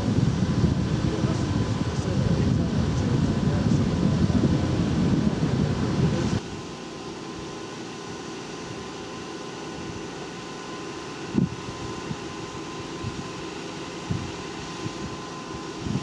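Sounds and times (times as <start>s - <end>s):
train engine idling hum: 0.0s - 16.0s.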